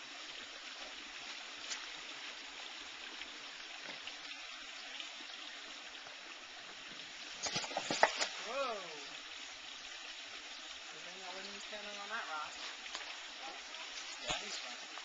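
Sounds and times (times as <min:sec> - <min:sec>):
creek flowing: 0:00.0 - 0:15.0.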